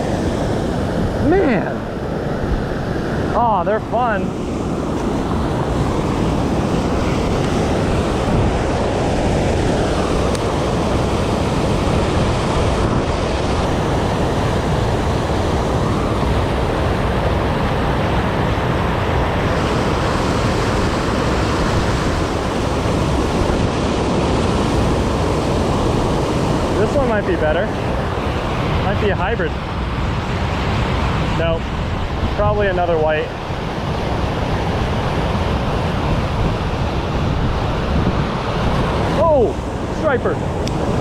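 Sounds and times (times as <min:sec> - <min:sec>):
river water pouring over dam: 0:02.7 - 0:41.0.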